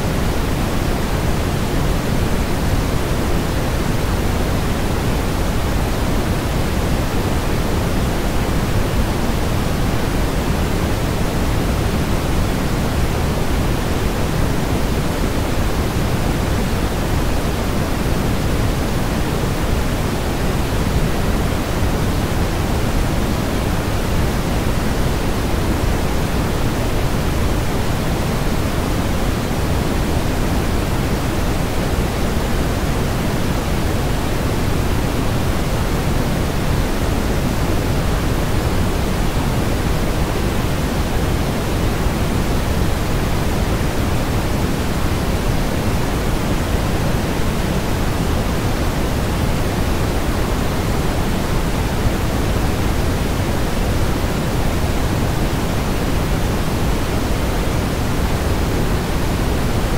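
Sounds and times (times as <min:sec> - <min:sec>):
white noise: 0:00.0 - 0:59.9.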